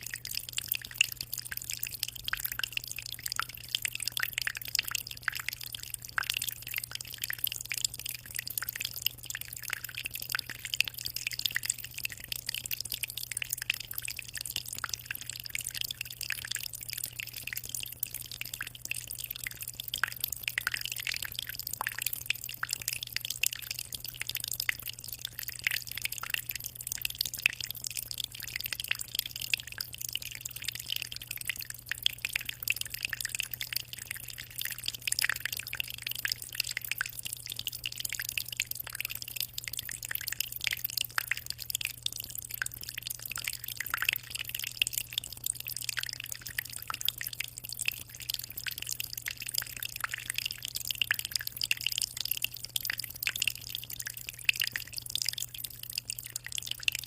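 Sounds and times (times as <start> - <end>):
aquarium water trickling and splashing: 0.0 - 57.0.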